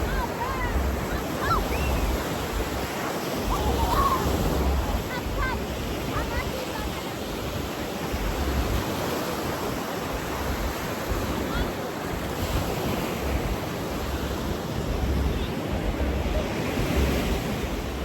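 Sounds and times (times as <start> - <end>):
ocean surf washing ashore: 0.0 - 18.0
wind buffeting microphone: 0.0 - 18.0.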